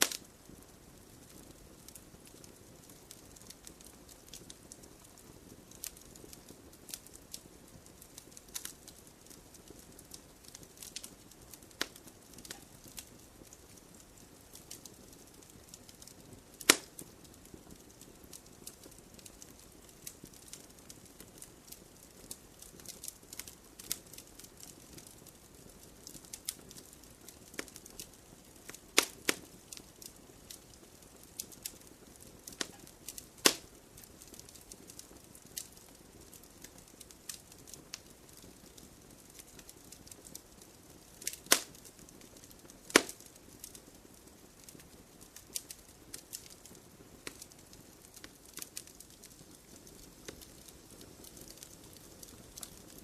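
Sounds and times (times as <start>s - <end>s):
campfire crackling and popping: 0.0s - 53.0s
soft fire hiss: 0.0s - 53.0s.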